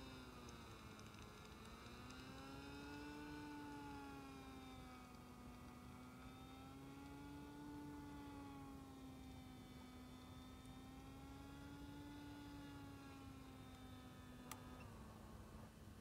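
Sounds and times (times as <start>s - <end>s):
model plane electric motor droning: 0.0s - 16.0s.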